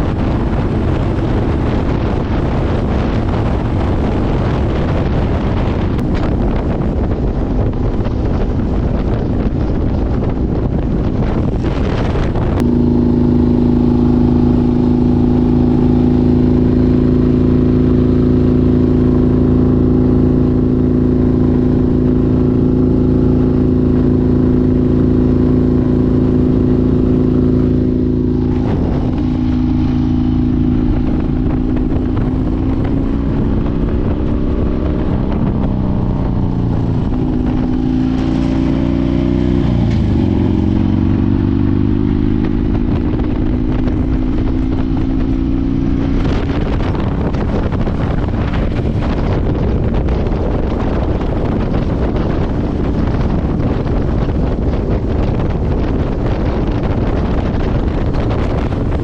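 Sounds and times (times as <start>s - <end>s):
motorcycle engine drone: 0.0s - 59.0s
wind rushing: 0.0s - 59.0s.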